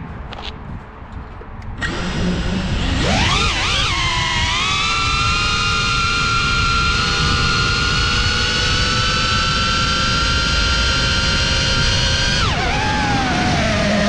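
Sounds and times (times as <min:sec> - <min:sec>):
drone propellers whining: 0:01.6 - 0:14.0.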